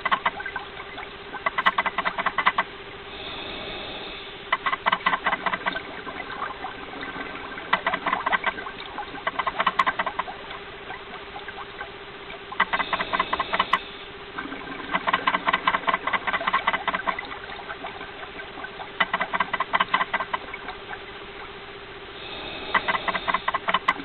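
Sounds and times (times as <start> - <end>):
steady low hum: 0.0 - 24.0
underwater bubbling and crackling: 0.0 - 24.0.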